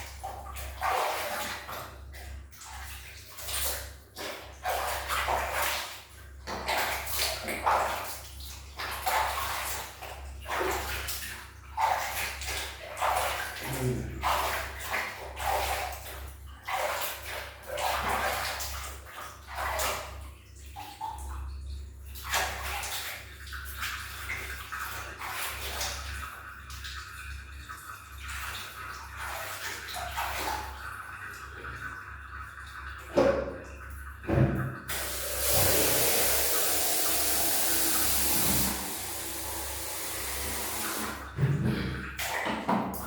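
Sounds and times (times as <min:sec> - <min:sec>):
water splashing and pouring: 0:00.0 - 0:21.3, 0:22.0 - 0:43.0.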